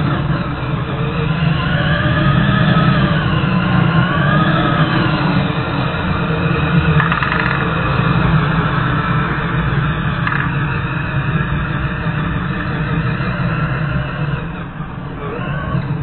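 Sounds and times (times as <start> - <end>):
electric motor running hard: 0.0 - 16.0.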